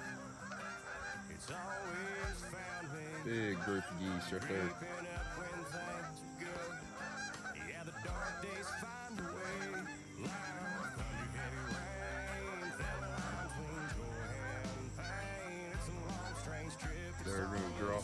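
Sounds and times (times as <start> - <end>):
geese honking in flight: 0.0 - 18.0.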